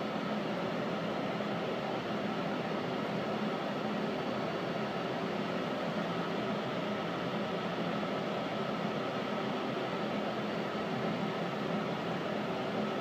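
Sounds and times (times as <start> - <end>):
ventilation fans humming: 0.0 - 13.0.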